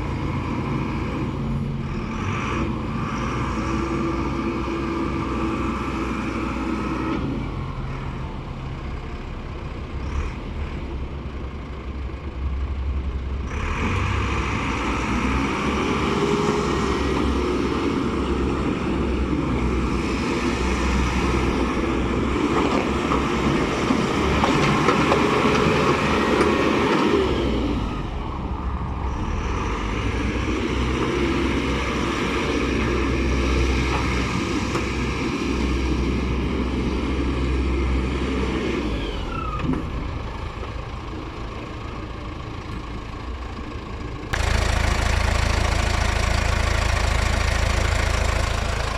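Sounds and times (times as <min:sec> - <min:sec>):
diesel engine revving: 0:00.0 - 0:08.8, 0:13.4 - 0:48.9.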